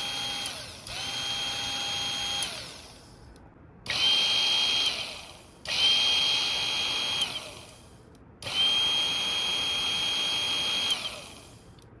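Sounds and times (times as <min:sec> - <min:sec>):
coffee grinder motor whine: 0:00.0 - 0:03.1, 0:03.9 - 0:11.6.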